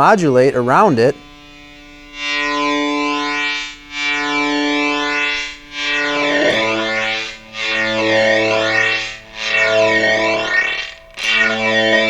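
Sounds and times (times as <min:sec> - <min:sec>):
flanged distorted electric guitar: 0:00.0 - 0:12.0.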